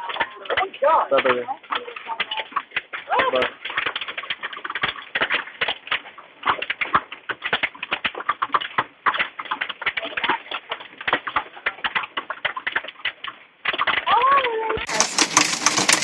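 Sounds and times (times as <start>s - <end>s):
hailstones pelting a hard surface: 0.0s - 16.0s.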